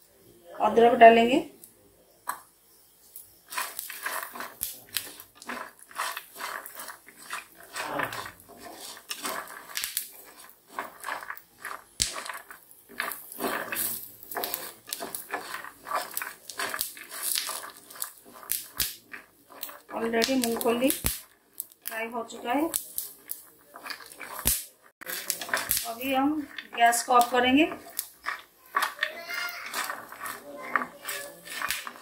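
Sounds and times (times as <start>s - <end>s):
frying in oil: 2.2s - 32.0s
metal spatula scraping frying pan: 3.5s - 32.0s.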